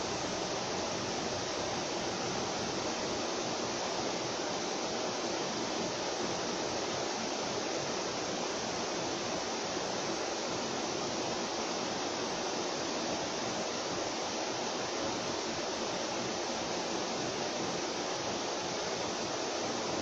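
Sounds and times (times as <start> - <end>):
electric fan whooshing: 0.0 - 20.0.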